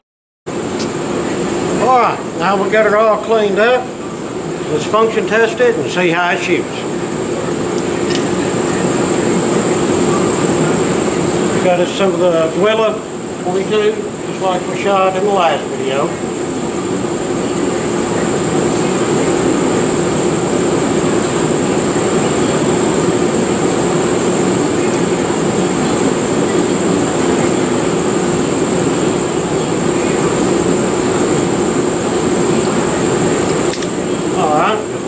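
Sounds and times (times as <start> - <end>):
loud droning hum: 0.5 - 35.0.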